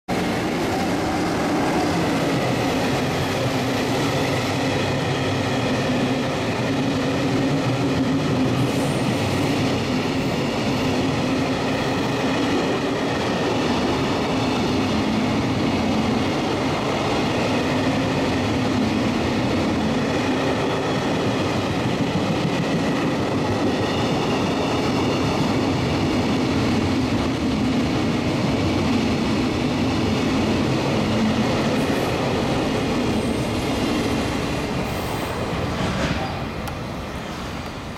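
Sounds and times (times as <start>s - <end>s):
freight train wheels rumbling and rattling: 0.1s - 37.9s.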